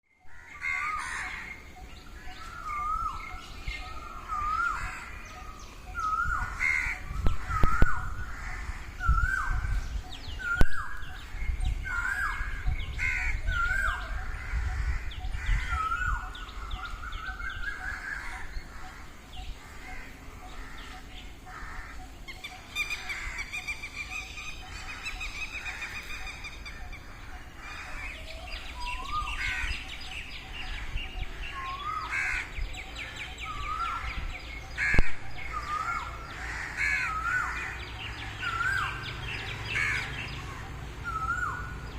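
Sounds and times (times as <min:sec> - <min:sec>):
birds twittering: 0:00.1 - 0:41.9
peacocks calling: 0:00.2 - 0:41.9.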